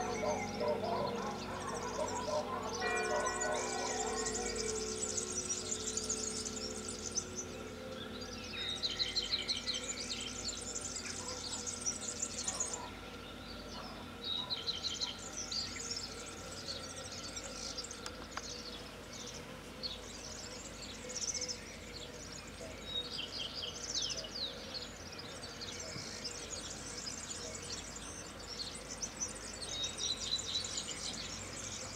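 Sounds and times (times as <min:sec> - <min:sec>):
lingering hum of bells: 0:00.0 - 0:31.9
songbirds chirping and trilling: 0:00.0 - 0:31.9.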